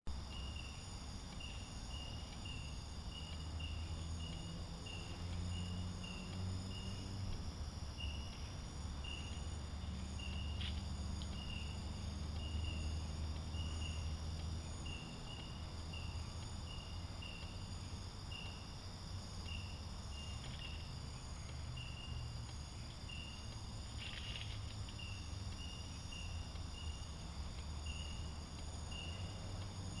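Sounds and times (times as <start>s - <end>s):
crickets chirping: 0.1s - 30.0s
low steady hum: 0.1s - 30.0s
high-pitched insect trill: 0.2s - 30.0s.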